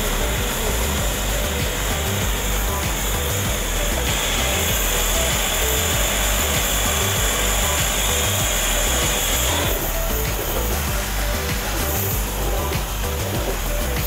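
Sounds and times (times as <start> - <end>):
background music: 0.0 - 14.0
gas torch hissing: 0.0 - 14.0.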